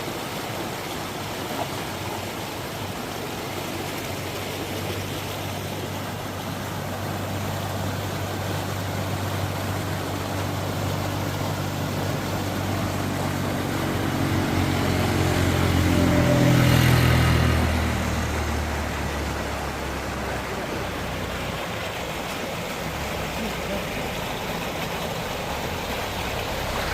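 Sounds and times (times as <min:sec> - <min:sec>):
rushing stream: 0:00.0 - 0:26.9
vehicle engine passing by: 0:03.6 - 0:26.9.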